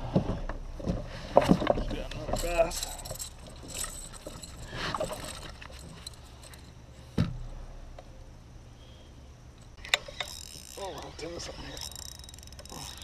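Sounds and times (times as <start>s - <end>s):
handling noises in a canoe: 0.0s - 7.5s, 9.8s - 13.0s
low steady hum: 0.0s - 13.0s.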